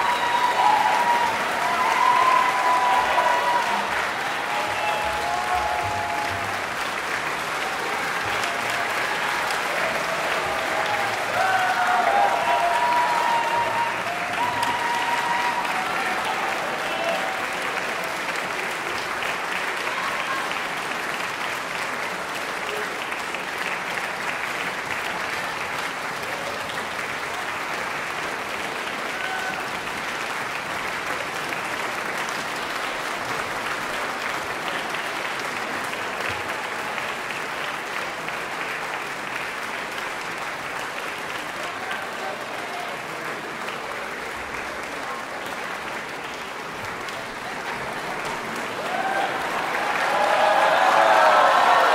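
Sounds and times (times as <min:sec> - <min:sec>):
large audience applauding: 0:00.0 - 0:51.9.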